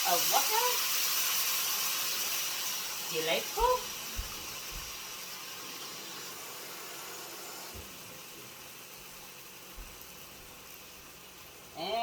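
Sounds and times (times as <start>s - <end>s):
water sizzling in hot pan: 0.0s - 12.0s.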